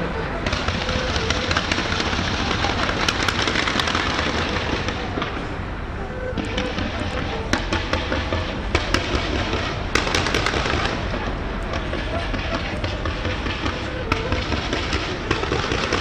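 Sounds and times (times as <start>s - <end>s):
crowd voices: 0.0s - 16.0s
fireworks popping and crackling: 0.4s - 5.6s, 6.2s - 16.0s.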